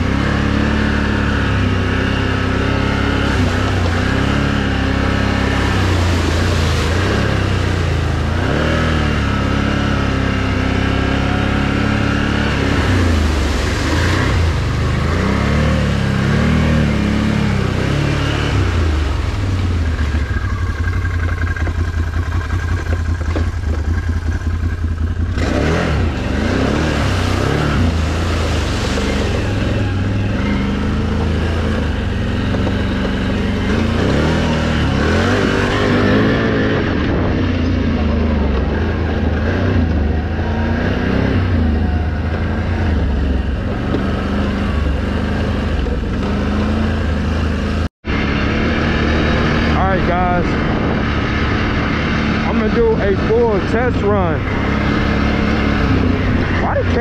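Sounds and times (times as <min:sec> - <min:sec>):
atv engine revving: 0:00.0 - 0:57.0
driving through mud and water: 0:00.0 - 0:57.0.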